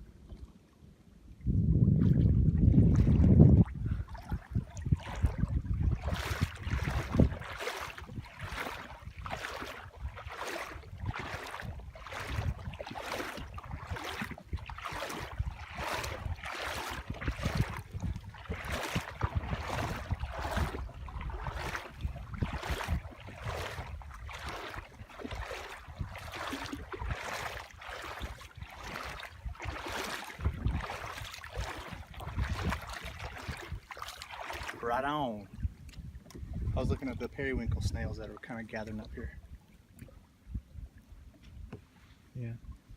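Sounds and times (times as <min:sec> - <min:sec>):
wind rumbling on microphone: 0:01.2 - 0:42.9
paddle strokes splashing water: 0:01.9 - 0:42.9.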